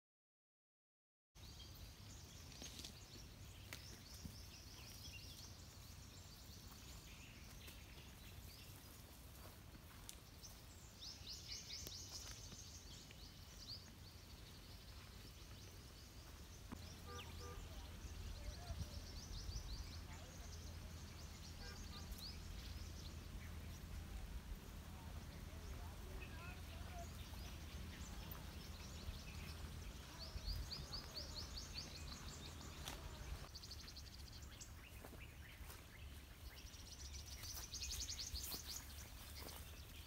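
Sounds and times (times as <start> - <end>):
small birds chirping: 1.4 - 40.0.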